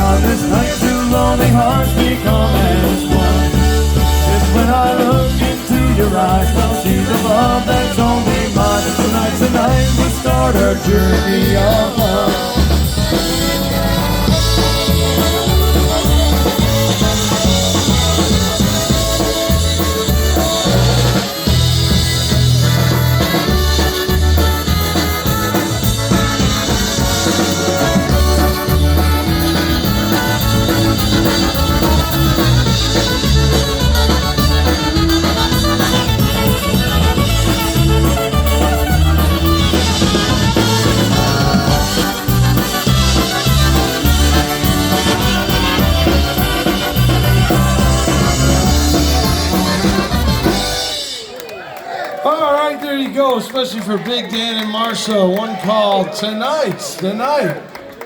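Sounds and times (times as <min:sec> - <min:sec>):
polka band playing: 0:00.0 - 0:58.0.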